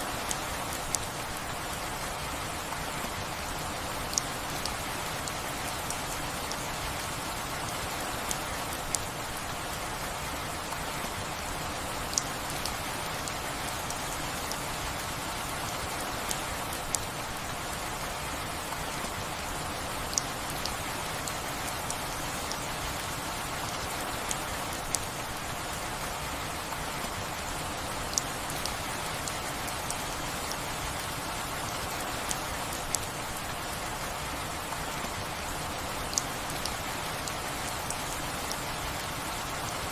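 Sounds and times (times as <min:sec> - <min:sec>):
steady rainfall hiss: 0:00.0 - 0:39.9
water drip ticks: 0:00.1 - 0:39.9.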